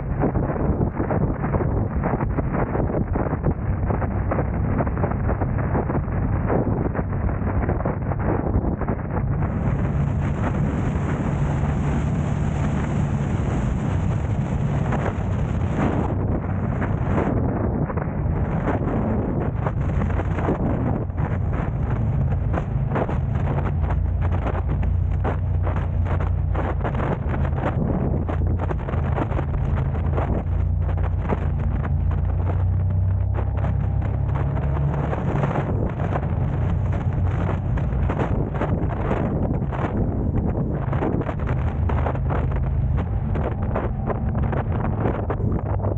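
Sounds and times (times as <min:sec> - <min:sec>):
car road and engine drone: 0:00.0 - 0:45.9
wind buffeting microphone: 0:00.0 - 0:45.9.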